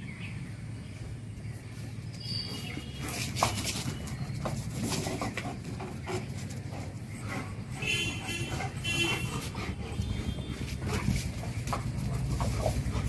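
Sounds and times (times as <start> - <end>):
dog paws clicking on concrete: 1.6 - 13.0.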